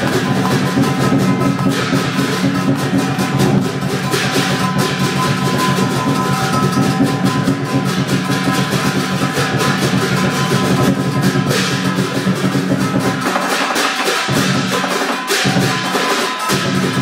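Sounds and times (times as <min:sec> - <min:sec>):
clashing cymbals: 0:00.0 - 0:17.0
drum beaten fast: 0:00.0 - 0:17.0.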